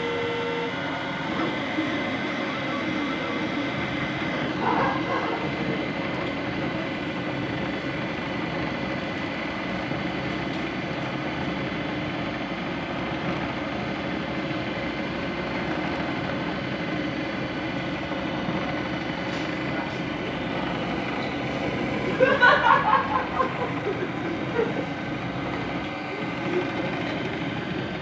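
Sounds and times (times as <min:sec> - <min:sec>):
constant whining tones: 0:00.0 - 0:28.0.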